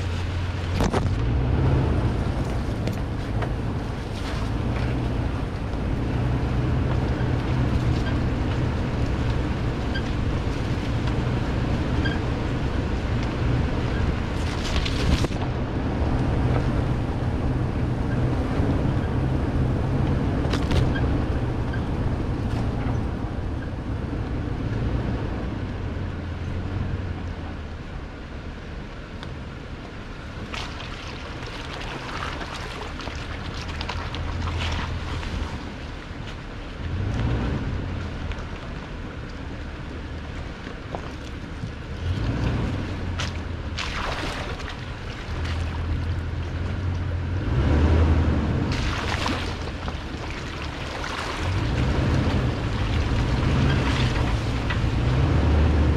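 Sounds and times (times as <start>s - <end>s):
tires crunching over rocks: 0.0s - 55.9s
truck engine running at low speed: 0.0s - 55.9s.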